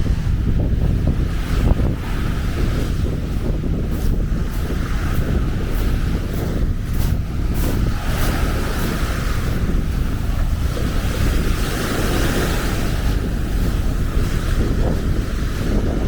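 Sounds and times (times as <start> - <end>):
small waves washing onto beach: 0.0 - 16.0
wind buffeting microphone: 0.0 - 16.0.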